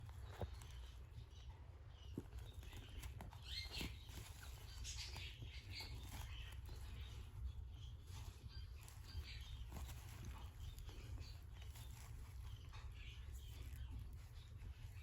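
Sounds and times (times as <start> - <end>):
kittens' paws pattering and scratching: 0.0 - 15.0.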